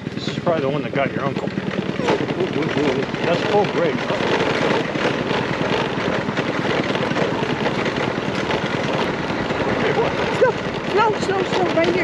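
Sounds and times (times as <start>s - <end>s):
scooter running noise: 0.0s - 12.0s.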